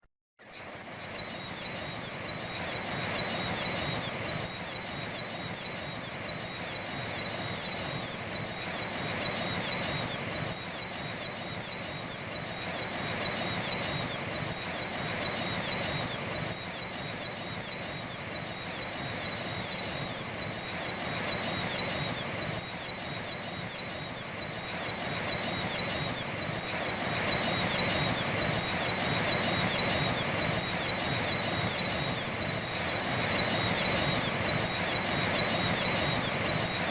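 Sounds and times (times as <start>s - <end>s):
seabirds chirping: 0.6s - 36.9s.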